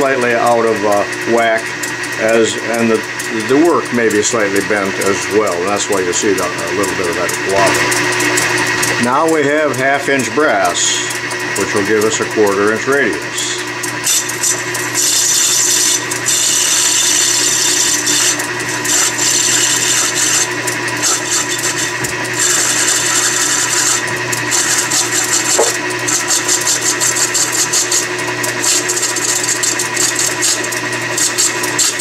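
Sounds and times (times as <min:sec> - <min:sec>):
metal lathe hum: 0:00.0 - 0:32.0
tool cutting brass hissing: 0:00.0 - 0:32.0.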